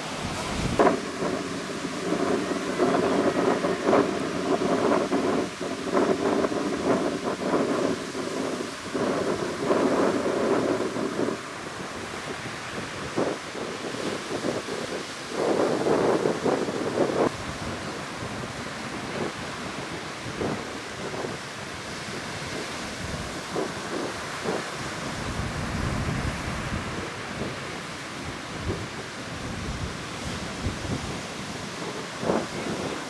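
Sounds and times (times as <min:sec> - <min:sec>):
heavy surf breaking: 0:00.0 - 0:33.0
wind gusts buffeting microphone: 0:00.0 - 0:33.0.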